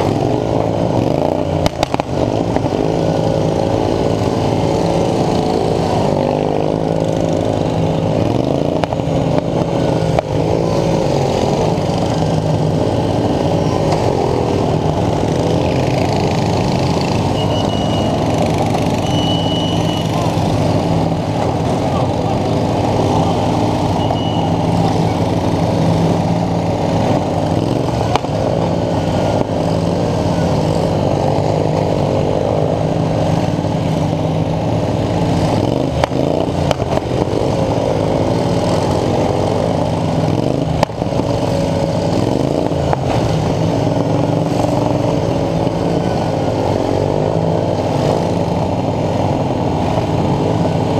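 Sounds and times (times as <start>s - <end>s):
riding lawn mower engines revving: 0.0s - 50.9s.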